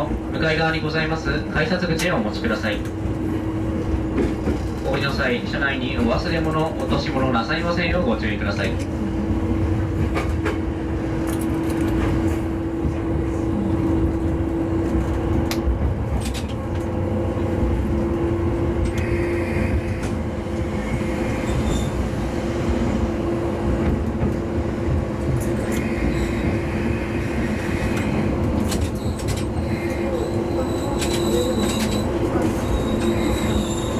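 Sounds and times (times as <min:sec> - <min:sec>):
diesel railcar engine hum: 0:00.0 - 0:33.9.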